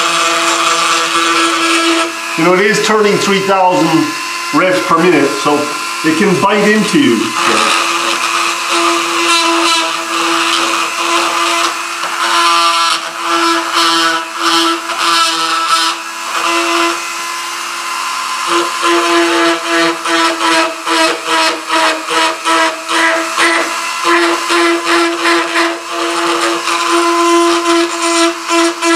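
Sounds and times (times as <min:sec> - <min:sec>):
rotary tool grinding: 0:00.0 - 0:28.9.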